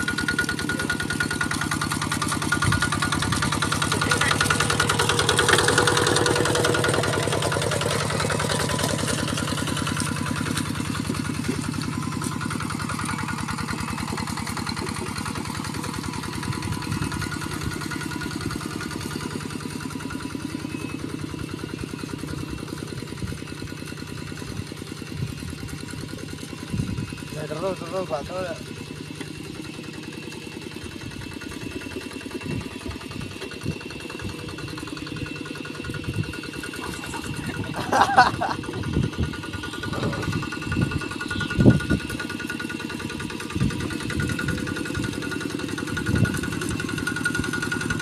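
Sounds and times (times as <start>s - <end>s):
walking tractor engine running: 0.0s - 48.0s.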